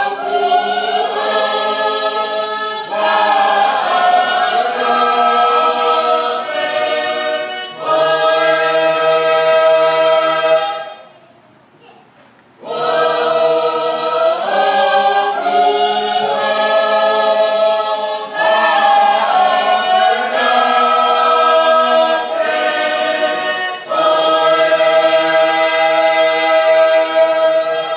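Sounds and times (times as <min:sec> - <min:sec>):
choir singing a hymn unaccompanied: 0:00.0 - 0:11.2, 0:12.6 - 0:27.9.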